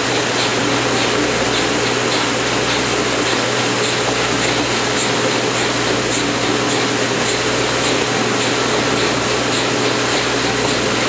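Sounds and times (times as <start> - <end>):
faint steam locomotive beat: 0.0 - 11.0
train rush and rumble: 0.0 - 11.0.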